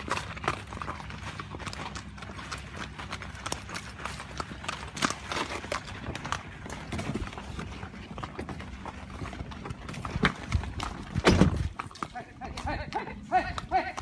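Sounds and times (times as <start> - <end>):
horse hooves on wet gravel: 0.0 - 14.0
vehicle engine running low: 0.0 - 14.0.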